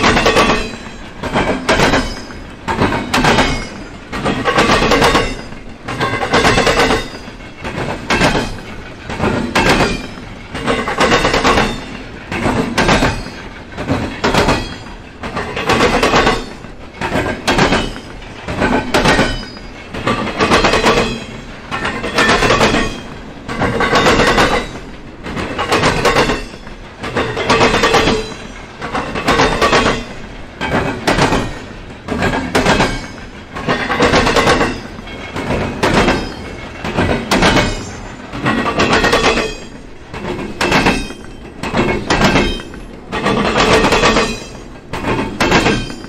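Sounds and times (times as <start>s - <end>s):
train wheels clattering over rails: 0.0s - 46.0s.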